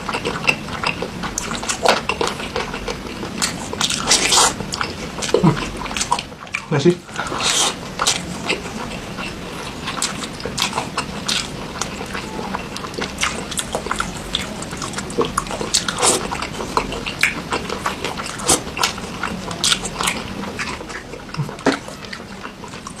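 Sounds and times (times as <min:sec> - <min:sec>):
chewing crispy fried chicken: 0:00.0 - 0:23.0.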